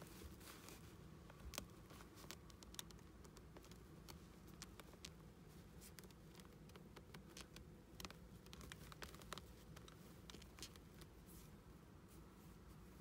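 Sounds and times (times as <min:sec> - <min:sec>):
hands rustling doll dress: 0:00.0 - 0:13.0
faint irregular clicks: 0:00.5 - 0:11.6.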